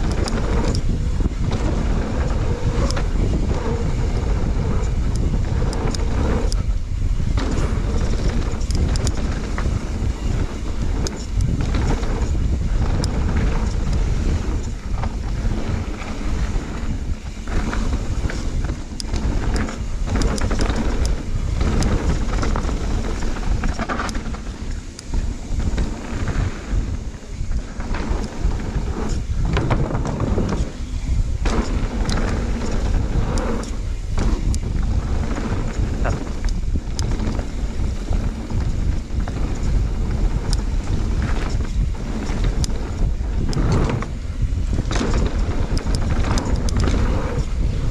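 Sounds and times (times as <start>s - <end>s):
bike clicking and rattling: 0.0s - 47.9s
bike tyres rolling on dirt: 0.0s - 47.9s
wind buffeting microphone: 0.0s - 47.9s.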